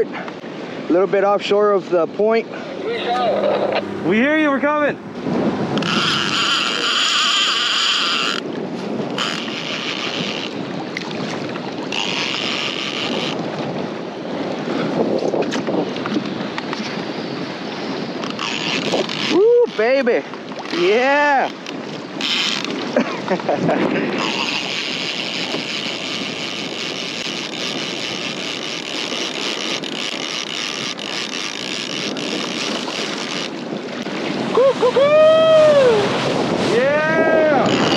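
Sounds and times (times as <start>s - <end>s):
wind buffeting microphone: 0.0s - 37.9s
outboard motor running: 2.1s - 37.9s.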